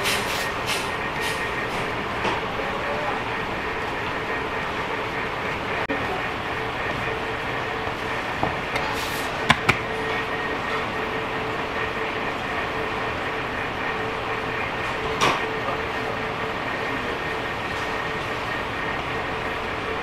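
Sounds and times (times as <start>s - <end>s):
machinery drone: 0.0s - 20.0s.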